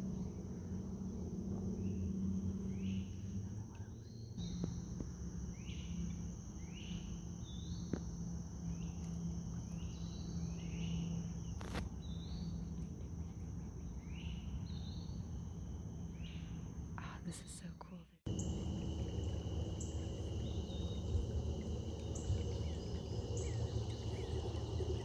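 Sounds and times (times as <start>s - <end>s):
insect chirps: 0.0s - 17.3s, 18.3s - 25.0s
insect drone: 0.0s - 17.3s, 18.3s - 25.0s
low steady hum: 0.0s - 25.0s.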